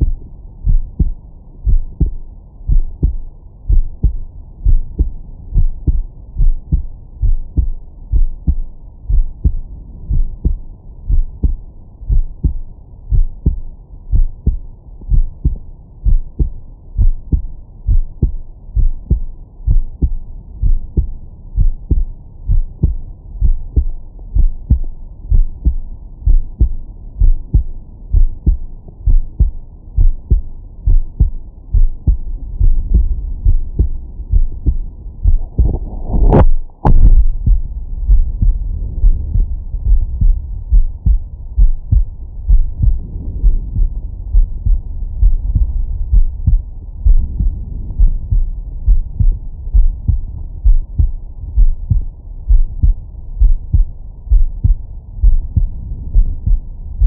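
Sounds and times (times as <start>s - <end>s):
heartbeat thumps: 0.0s - 57.0s.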